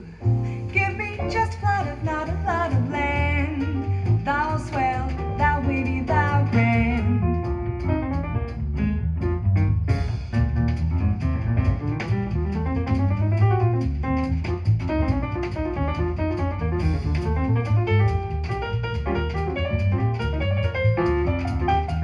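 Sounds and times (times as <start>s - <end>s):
double bass: 0.0s - 22.0s
drums: 0.0s - 22.0s.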